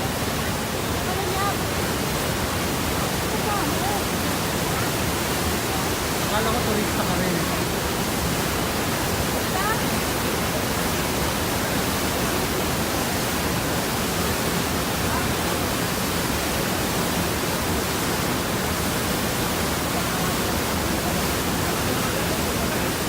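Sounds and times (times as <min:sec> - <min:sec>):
large waterfall rushing: 0:00.0 - 0:23.0.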